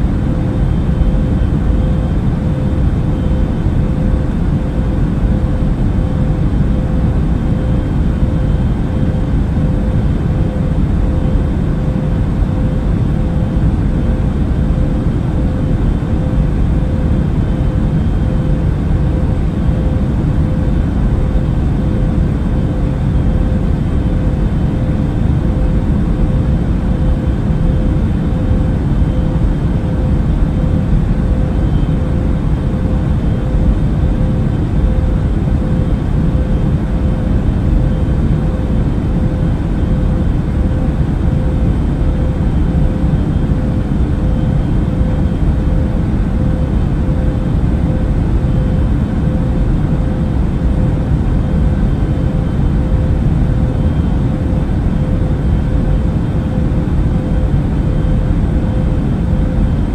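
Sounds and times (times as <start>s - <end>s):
mid-pitched hum: 0.0s - 59.9s.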